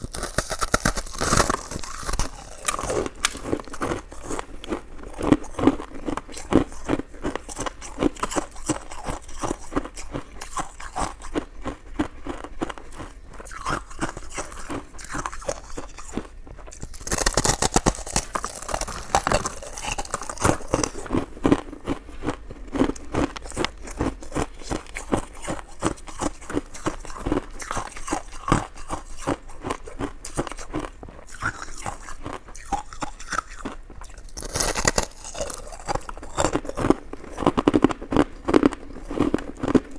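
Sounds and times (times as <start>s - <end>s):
chewing and mouth smacks: 0.0s - 39.9s.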